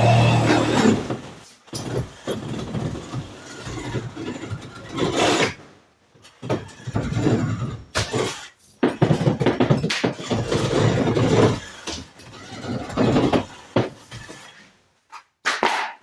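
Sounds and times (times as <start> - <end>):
wall material scraping and knocking: 0.0 - 16.0.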